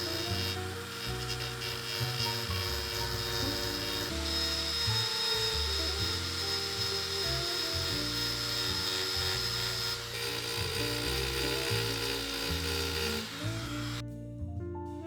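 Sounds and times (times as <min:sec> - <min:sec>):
power tool grinding with high whine: 0:00.0 - 0:14.0
background music: 0:00.0 - 0:15.0.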